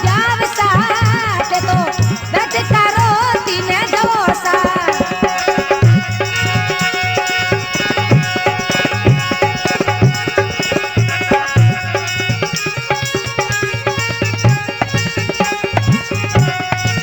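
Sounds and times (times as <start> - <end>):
hand drums: 0.0 - 17.0
held melodic notes: 0.0 - 17.0.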